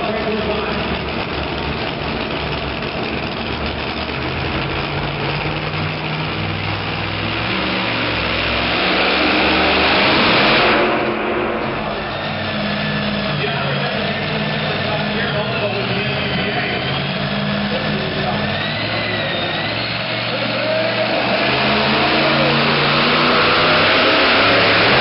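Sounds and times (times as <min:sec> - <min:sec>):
pulling truck engine running hard: 0:00.0 - 0:25.0.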